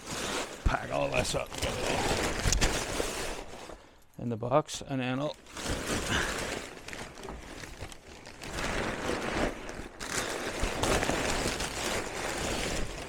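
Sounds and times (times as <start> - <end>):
paper and cardboard crumpling: 0.0 - 3.9, 5.2 - 13.0.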